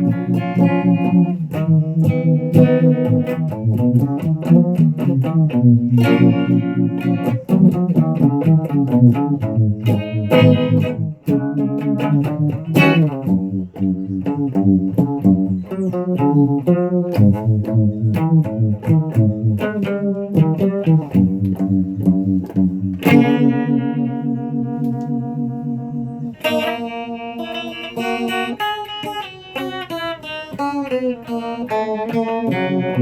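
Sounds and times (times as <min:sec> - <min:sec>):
guitar playing: 0:00.0 - 0:33.0.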